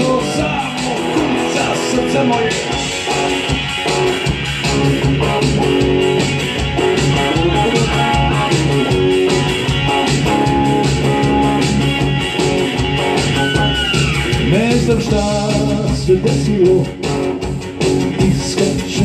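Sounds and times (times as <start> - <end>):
backing track with steady beat: 0.0 - 19.0
electric guitar melody: 0.0 - 19.0.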